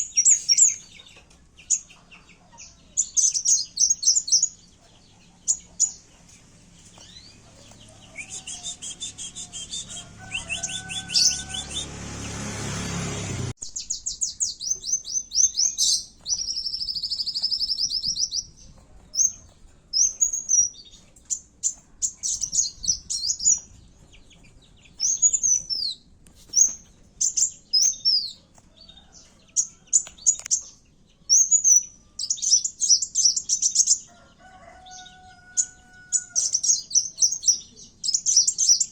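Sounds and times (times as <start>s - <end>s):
bird singing high rapid chirps: 0.0s - 34.1s, 35.0s - 38.9s.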